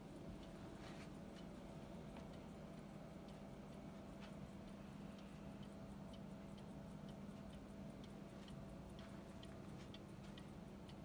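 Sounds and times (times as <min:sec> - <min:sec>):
mantel clock ticking: 0:00.0 - 0:11.0.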